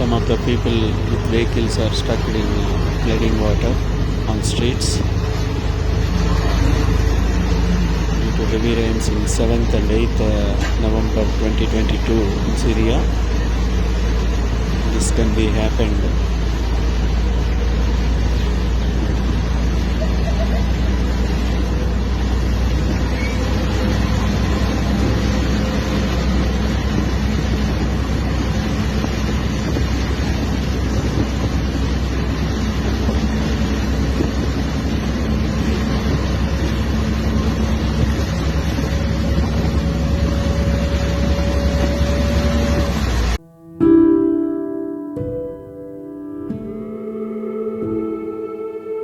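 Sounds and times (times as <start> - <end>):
vehicle engine running: 0.0 - 43.4
loud steady rushing noise: 0.0 - 43.5, 46.4 - 49.0.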